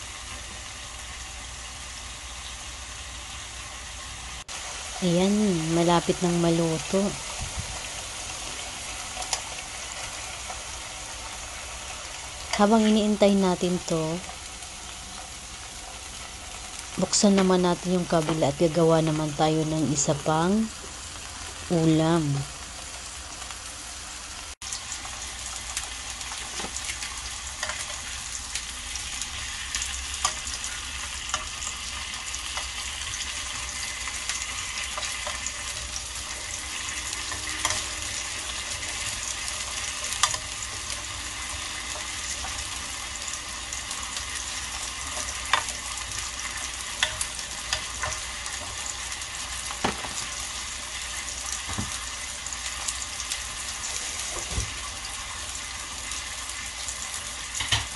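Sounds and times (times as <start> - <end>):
steaks sizzling in a grill pan: 0.0 - 57.9.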